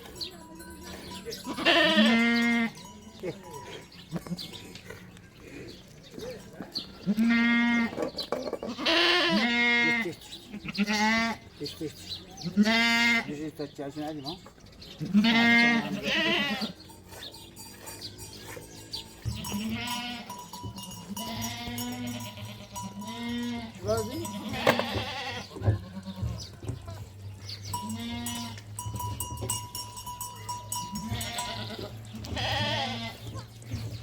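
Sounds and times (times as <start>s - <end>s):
animal bells ringing: 0.0s - 7.2s, 10.0s - 10.9s, 13.4s - 34.0s
sheep and goats bleating: 0.1s - 5.8s, 6.8s - 14.2s, 14.8s - 34.0s.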